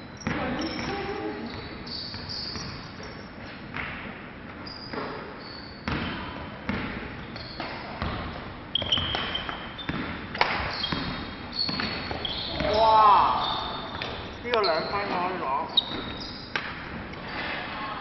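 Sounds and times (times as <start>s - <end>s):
shoe squeaks on court: 0.1s - 3.7s, 4.6s - 6.5s, 7.2s - 16.6s.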